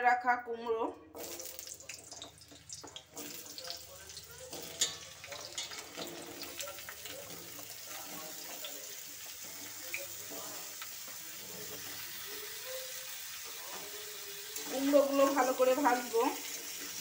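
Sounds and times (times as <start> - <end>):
food sizzling in hot oil: 1.2 - 17.0.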